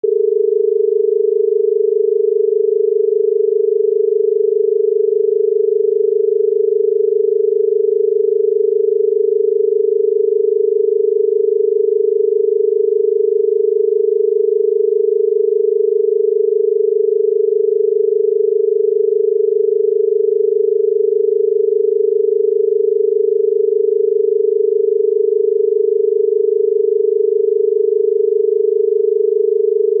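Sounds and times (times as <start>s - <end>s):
telephone dial tone: 0.0s - 28.2s, 29.8s - 30.0s.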